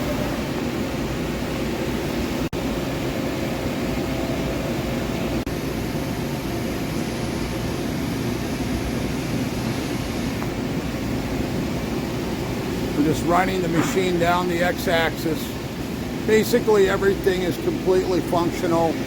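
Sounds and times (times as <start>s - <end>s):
milling machine hum and whir: 0.0s - 19.0s.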